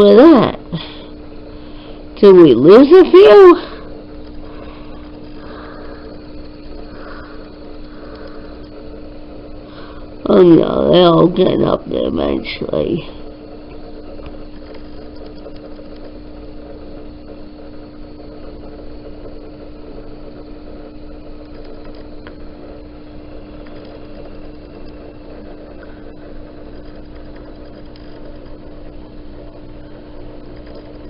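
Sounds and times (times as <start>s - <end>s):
small motor humming: 0.0s - 31.0s.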